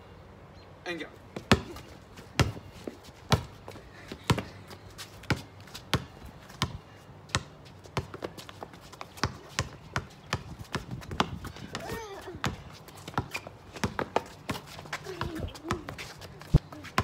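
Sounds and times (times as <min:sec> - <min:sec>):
basketball bouncing on concrete: 0:01.4 - 0:17.0.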